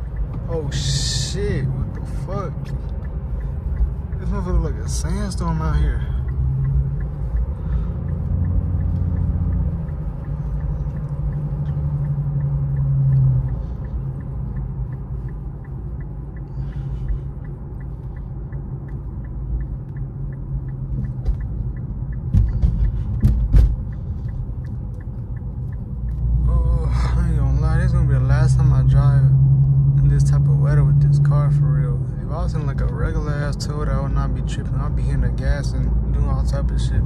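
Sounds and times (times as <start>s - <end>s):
car cabin engine drone: 0.0s - 37.0s
light regular ticking: 0.0s - 37.0s.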